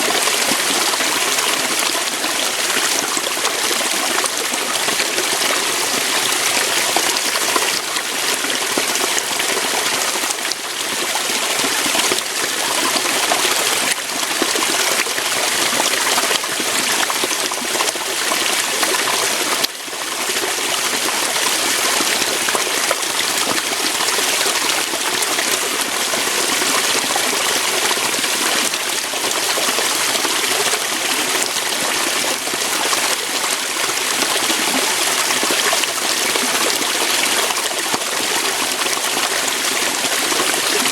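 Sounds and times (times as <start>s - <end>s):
water splashing over rocks: 0.0s - 40.9s.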